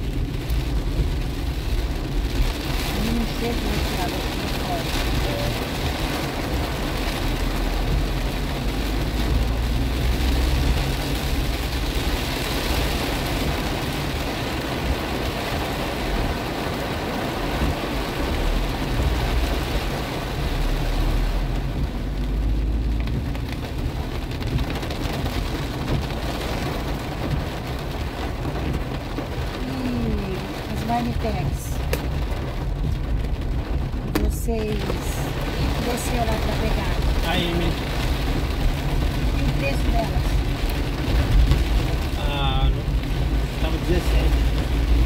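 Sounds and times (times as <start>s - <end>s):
car tyres rumbling on wet road: 0.0s - 45.0s
rain on car roof: 0.0s - 45.0s.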